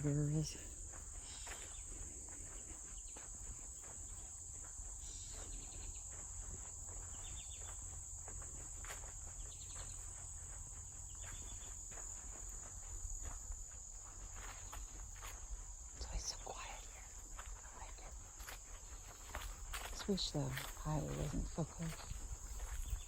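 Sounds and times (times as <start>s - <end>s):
crickets and insects droning: 0.0s - 23.0s
footsteps on forest floor: 0.0s - 23.0s.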